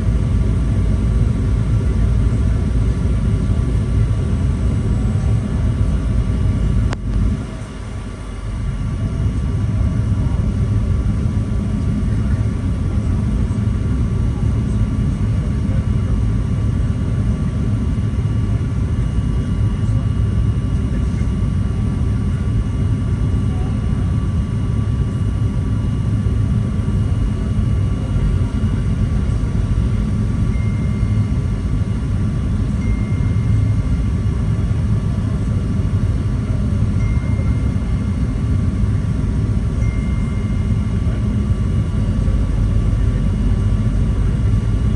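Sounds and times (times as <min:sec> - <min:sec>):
airliner cabin engine rumble: 0:00.0 - 0:44.9
faint steady tones: 0:00.0 - 0:44.9.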